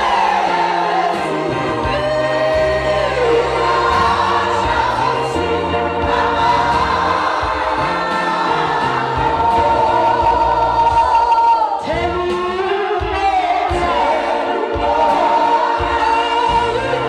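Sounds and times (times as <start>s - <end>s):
choir singing held notes: 0.0s - 17.0s
stepping bass line: 0.0s - 17.0s.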